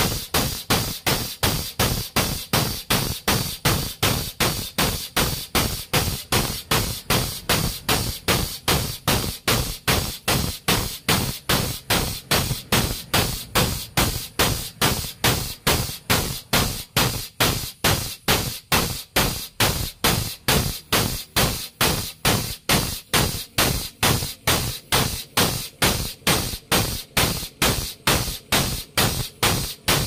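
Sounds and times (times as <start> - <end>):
air hydraulic jack chuffing: 0.0 - 30.0.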